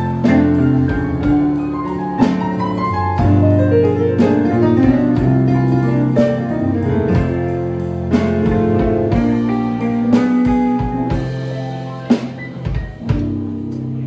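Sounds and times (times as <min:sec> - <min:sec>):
blues band playing: 0:00.0 - 0:14.0
keyboards: 0:00.0 - 0:14.0.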